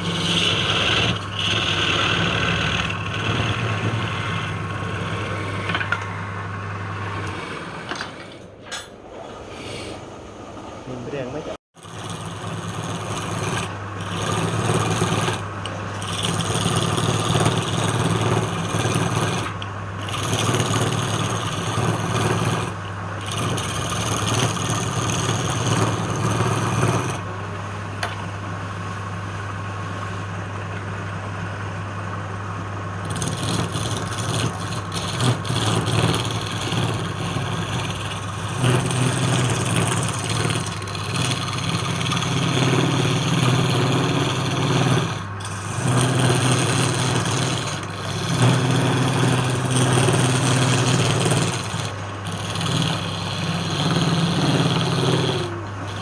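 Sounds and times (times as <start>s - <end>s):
wood lathe motor humming: 0.0s - 8.4s, 11.8s - 28.1s, 32.0s - 56.0s
tool scraping spinning wood: 0.0s - 8.8s, 11.1s - 28.2s, 28.9s - 56.0s.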